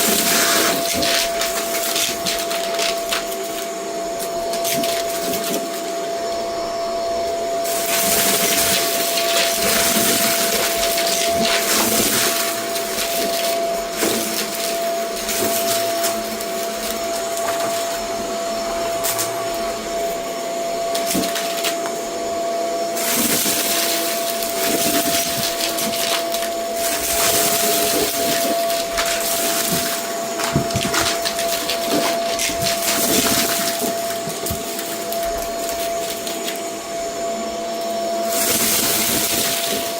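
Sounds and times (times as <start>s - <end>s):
vacuum cleaner on a rug: 0.0s - 39.9s.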